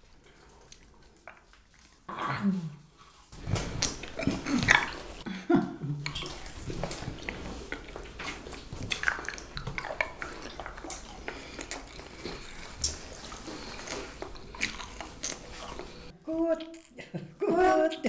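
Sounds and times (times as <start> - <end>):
chewing: 0.0 - 2.1, 2.8 - 5.3, 6.0 - 16.9.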